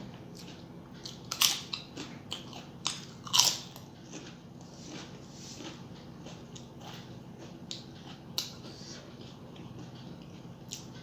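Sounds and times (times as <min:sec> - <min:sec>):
soft chewing: 0:00.0 - 0:11.0.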